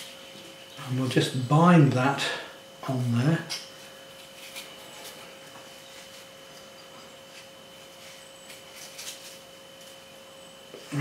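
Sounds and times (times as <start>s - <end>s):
faint hum with high whine: 0.0s - 11.0s.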